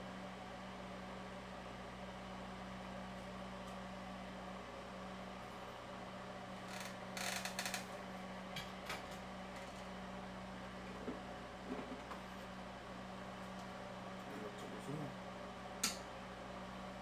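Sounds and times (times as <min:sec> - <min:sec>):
ventilation hum: 0:00.0 - 0:17.0.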